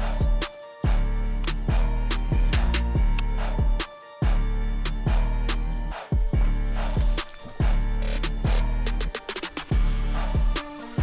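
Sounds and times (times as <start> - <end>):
kick drums: 0.0 - 8.8, 9.7 - 11.0
low bass line: 0.0 - 9.1, 9.7 - 10.6
hi-hat ticks: 0.0 - 11.0.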